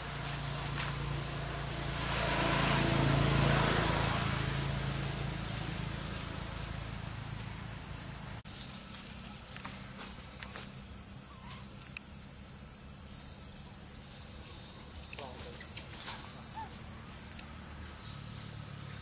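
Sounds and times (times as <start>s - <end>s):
outdoor hiss: 0.0s - 19.0s.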